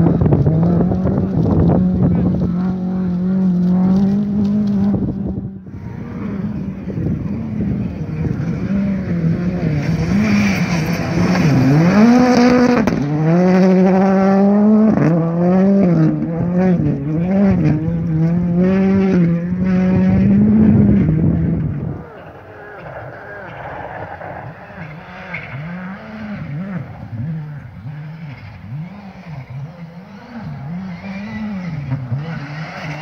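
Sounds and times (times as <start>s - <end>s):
rally car engines revving: 0.0s - 33.0s.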